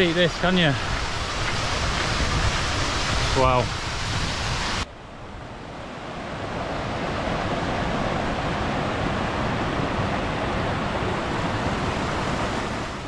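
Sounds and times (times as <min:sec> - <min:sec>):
stream rushing over boulders: 0:00.0 - 0:13.0.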